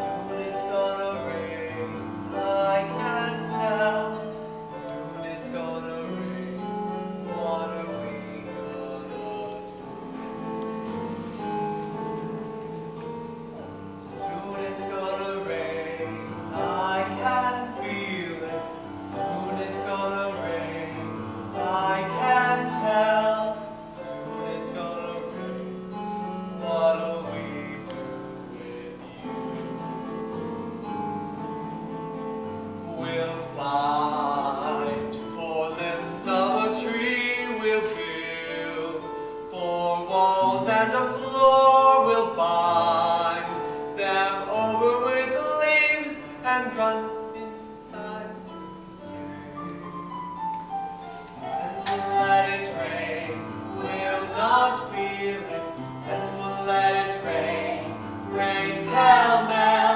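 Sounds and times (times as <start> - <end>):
man and woman singing duet: 0.0 - 9.8, 13.6 - 29.6, 32.6 - 49.6, 51.3 - 59.9.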